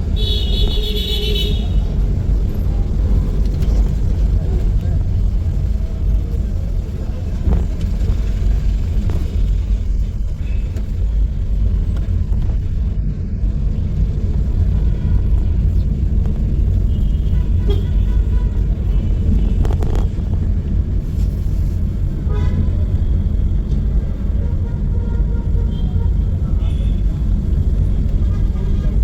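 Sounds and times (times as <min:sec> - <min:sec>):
low rumble of traffic: 0:00.0 - 0:29.0.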